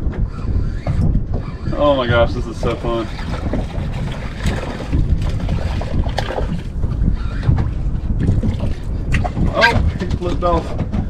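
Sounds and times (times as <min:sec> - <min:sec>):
water washing around boat: 0:00.0 - 0:11.0
wind buffeting microphone: 0:00.0 - 0:11.0.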